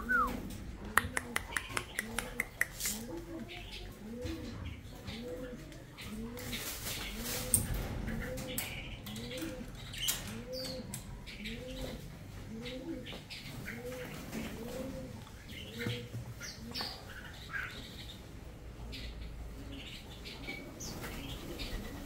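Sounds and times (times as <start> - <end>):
pigeons cooing: 0.0 - 22.0
small birds chirping: 0.0 - 22.0.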